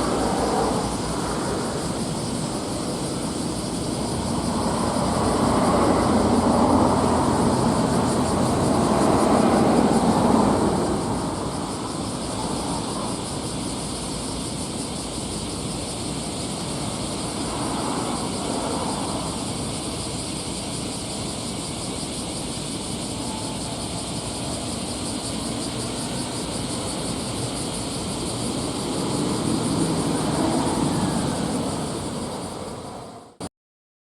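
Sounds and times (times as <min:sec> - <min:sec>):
ferry engines droning: 0:00.0 - 0:33.4
high-pitched outdoor noise: 0:00.0 - 0:33.5.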